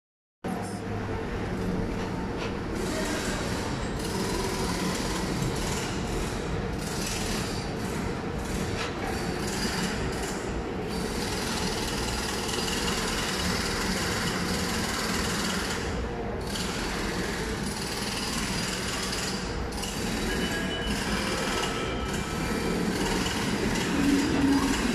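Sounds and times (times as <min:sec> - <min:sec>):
train rumbling on elevated track: 0:00.5 - 0:24.9.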